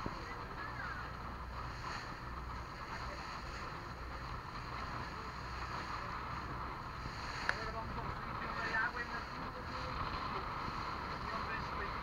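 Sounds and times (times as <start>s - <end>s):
motorboat engine drone: 0.0s - 12.0s
water rushing along hull: 0.0s - 12.0s.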